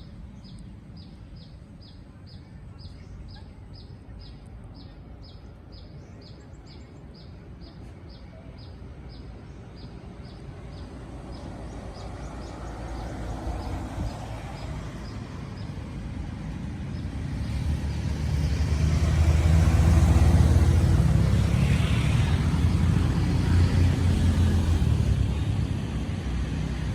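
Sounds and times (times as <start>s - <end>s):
vehicle engine and road rumble: 0.0s - 26.9s.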